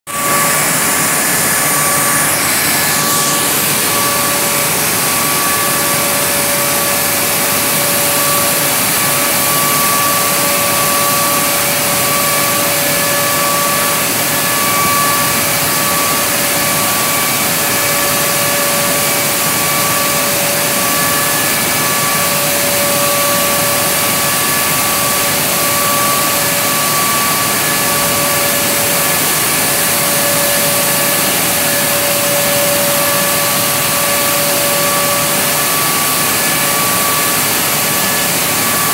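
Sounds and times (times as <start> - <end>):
dust extractor rushing air: 0.1 - 38.9
steady high whine: 0.1 - 38.9.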